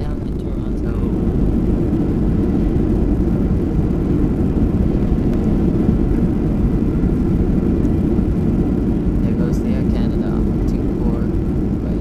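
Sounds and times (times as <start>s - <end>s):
airliner engines rumbling on runway: 0.0s - 12.0s.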